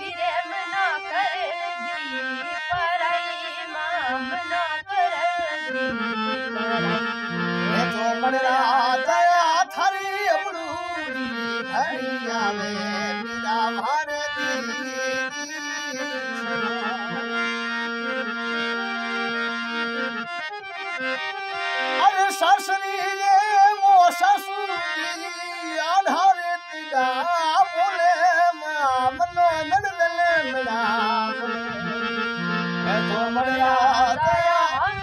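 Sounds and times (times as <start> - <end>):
wordless voice singing: 0.0 - 17.4, 21.9 - 35.0
harmonium playing folk tune: 0.0 - 35.0.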